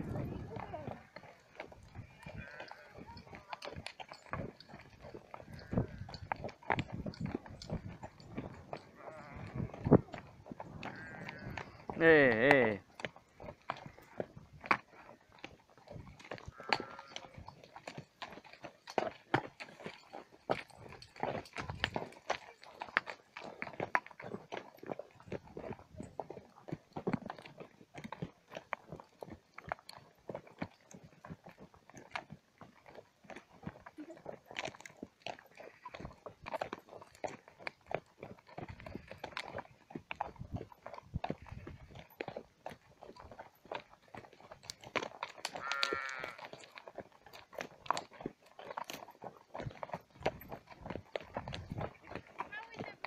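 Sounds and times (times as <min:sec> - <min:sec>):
horse hooves on stony track: 0:00.0 - 0:53.0.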